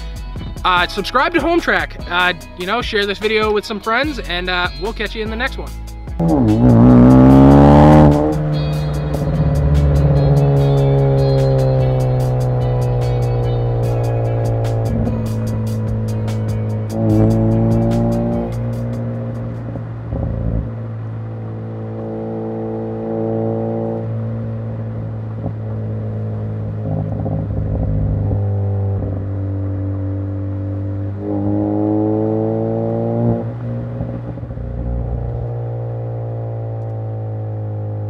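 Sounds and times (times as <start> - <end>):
car engine droning: 5.8 - 38.0.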